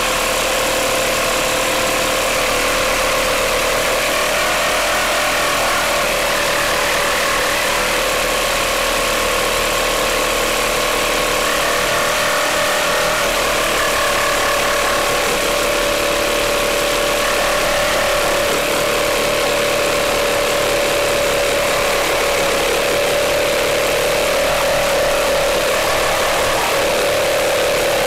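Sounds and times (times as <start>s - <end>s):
reciprocating saw cutting timber: 0.0s - 28.0s.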